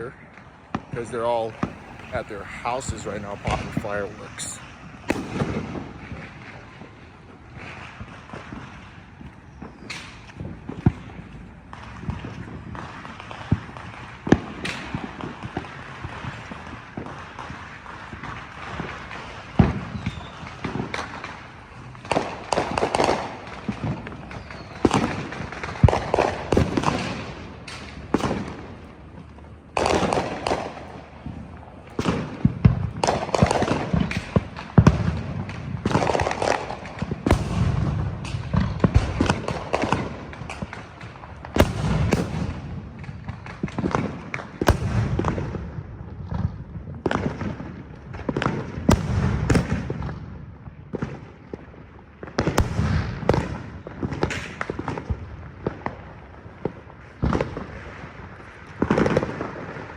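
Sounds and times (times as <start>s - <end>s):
deep fireworks booms: 0.0s - 59.9s
fireworks bangs and crackling: 0.0s - 59.9s.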